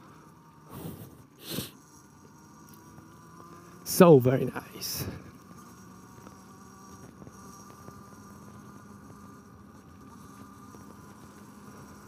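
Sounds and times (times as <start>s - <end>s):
electric motorcycle motor hum: 0.0s - 12.0s.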